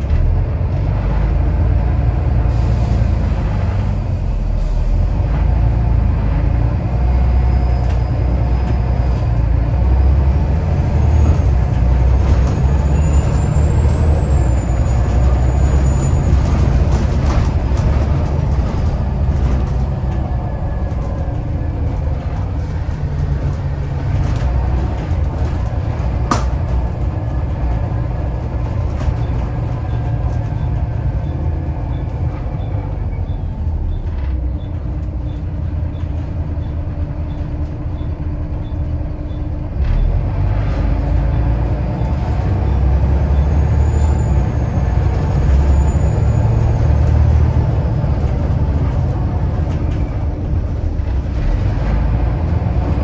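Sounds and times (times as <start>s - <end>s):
bus diesel engine working hard: 0.0s - 53.0s.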